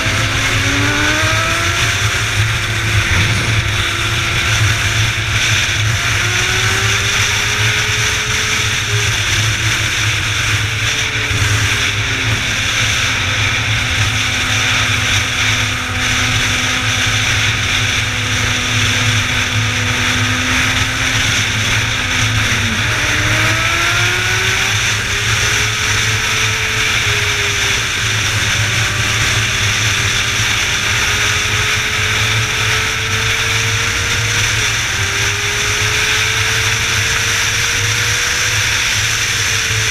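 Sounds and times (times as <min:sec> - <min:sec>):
motorcycle engine at speed: 0:00.0 - 0:39.9
road and wind noise: 0:00.0 - 0:39.9.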